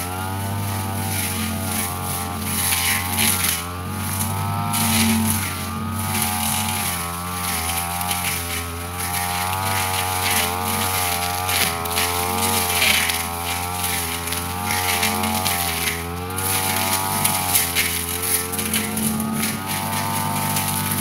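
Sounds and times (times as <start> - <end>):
brush cutter engine cutting grass: 0.0 - 21.0.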